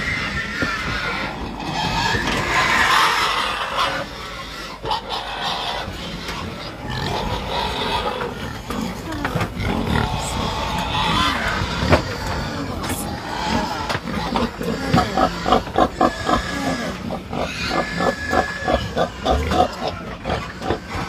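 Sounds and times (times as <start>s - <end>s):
pigs squealing: 0.0s - 21.0s.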